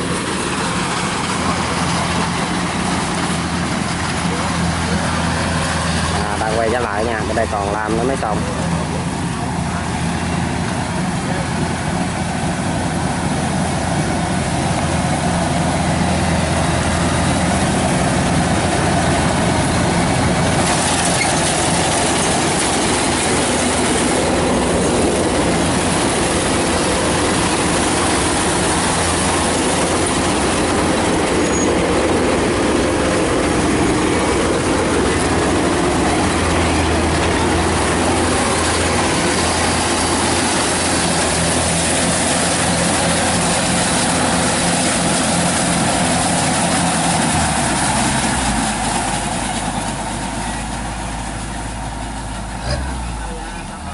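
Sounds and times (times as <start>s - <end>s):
combine harvester mechanical din: 0.0s - 53.9s.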